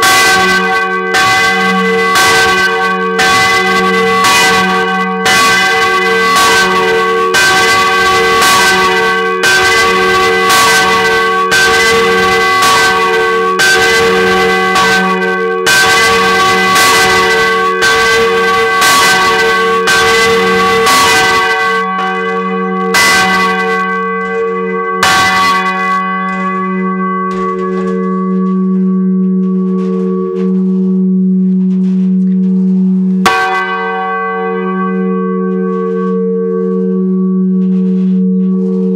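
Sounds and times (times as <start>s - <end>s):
bell's deep hum: 0.0s - 38.9s
church bell ringing: 0.0s - 38.9s.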